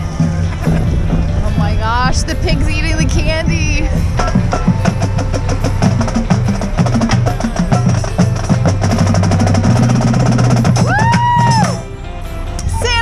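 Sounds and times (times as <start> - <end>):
bass line: 0.0 - 13.0
drum-driven music: 0.0 - 13.0.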